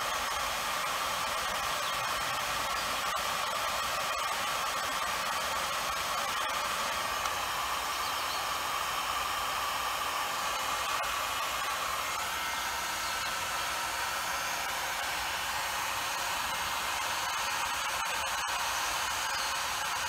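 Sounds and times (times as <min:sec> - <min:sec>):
heat gun blowing hiss: 0:00.0 - 0:20.0.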